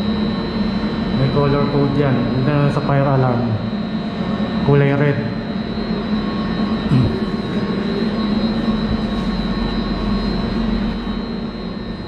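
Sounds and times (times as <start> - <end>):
high whine: 0.0 - 12.0
machinery low hum: 0.0 - 12.0.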